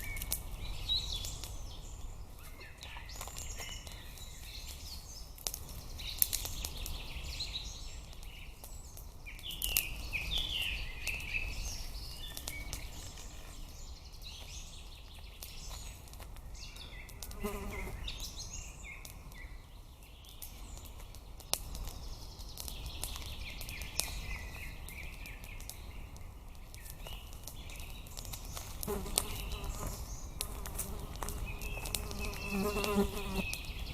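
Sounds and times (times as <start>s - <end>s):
birds twittering: 0.0s - 33.9s.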